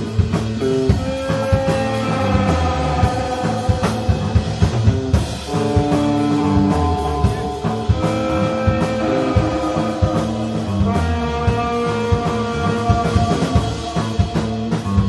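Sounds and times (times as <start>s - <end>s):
bass guitar: 0.0s - 15.0s
drum kit: 0.0s - 15.0s
overdriven electric guitar: 0.0s - 15.0s.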